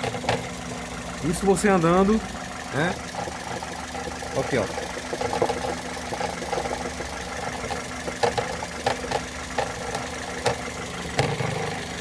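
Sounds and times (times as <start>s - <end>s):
car engine idling: 0.0s - 12.0s
loose engine cover rattling: 0.0s - 12.0s.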